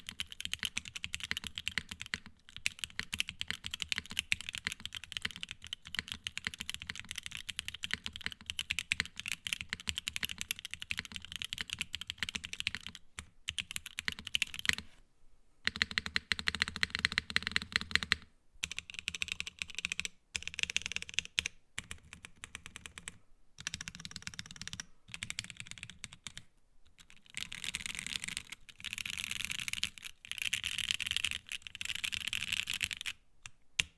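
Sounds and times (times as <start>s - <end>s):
fast mechanical keyboard typing: 0.0s - 14.8s, 15.7s - 26.4s, 27.0s - 33.2s.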